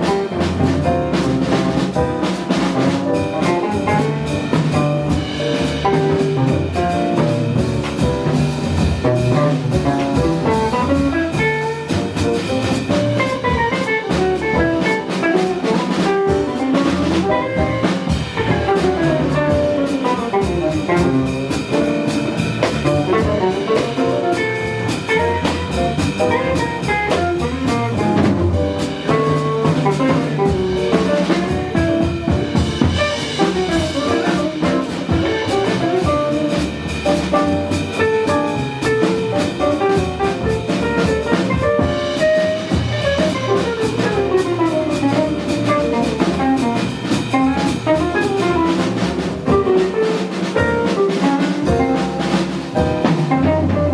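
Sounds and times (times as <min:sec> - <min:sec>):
bass: 0:00.0 - 0:53.9
drum kit: 0:00.0 - 0:53.9
jazz combo playing: 0:00.0 - 0:53.9.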